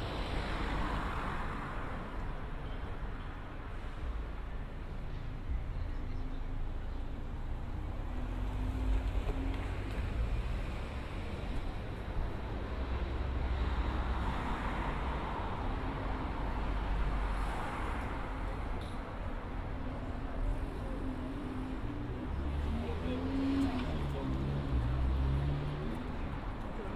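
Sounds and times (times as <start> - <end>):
low traffic rumble: 0.0 - 26.9.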